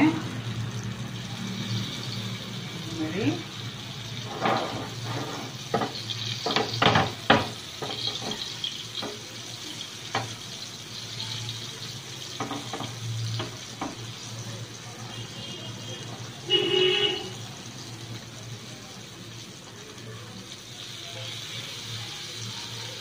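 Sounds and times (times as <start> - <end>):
fish sizzling in oil: 0.0 - 23.0.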